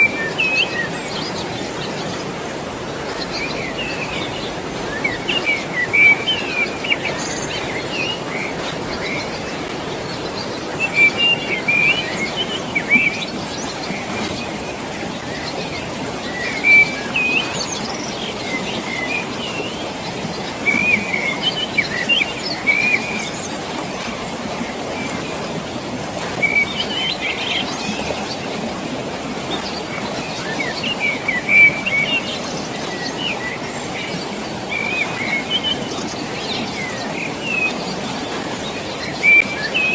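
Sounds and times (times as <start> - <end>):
rushing water: 0.0 - 39.9
songbirds chirping: 0.0 - 39.9.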